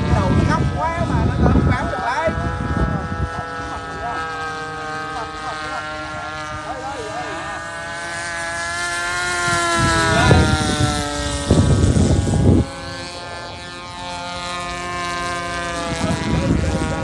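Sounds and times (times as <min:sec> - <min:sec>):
model airplane engines buzzing: 0:00.0 - 0:17.0.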